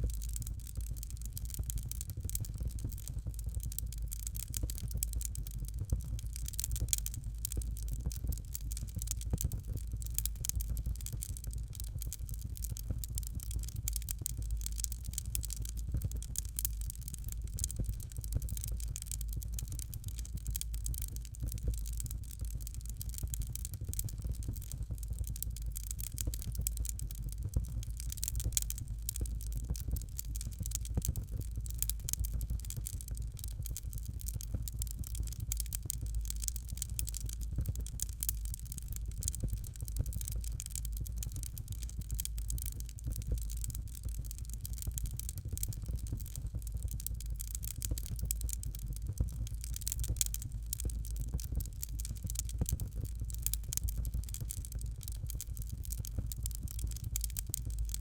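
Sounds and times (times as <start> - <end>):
fire crackling: 0.0 - 58.0.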